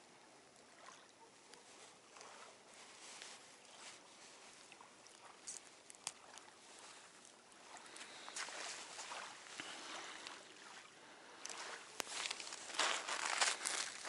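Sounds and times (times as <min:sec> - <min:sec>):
wind: 0:00.0 - 0:14.0
lapping water: 0:00.3 - 0:14.0.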